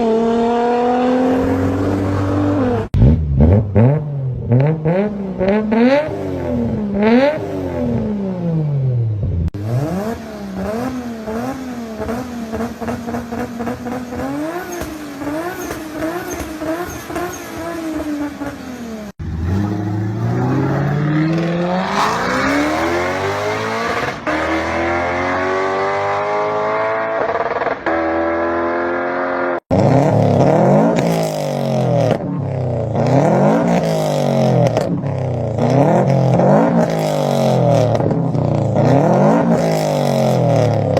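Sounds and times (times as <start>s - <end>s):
car engine accelerating: 0.0s - 40.9s
engine revving up and down: 0.0s - 40.9s.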